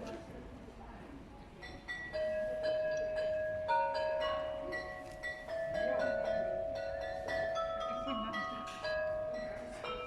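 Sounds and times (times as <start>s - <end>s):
carillon bells playing a melody: 1.6s - 10.0s.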